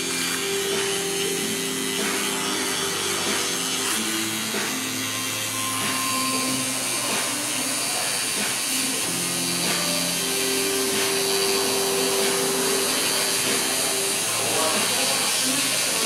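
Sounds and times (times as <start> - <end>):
tattoo machine buzzing: 0.0 - 16.0.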